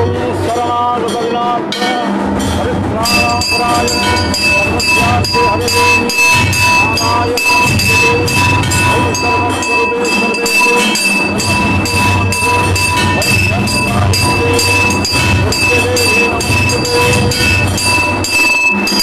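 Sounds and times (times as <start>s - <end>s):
bells and gongs struck: 0.0s - 19.0s
continuous ringing tone: 0.0s - 19.0s.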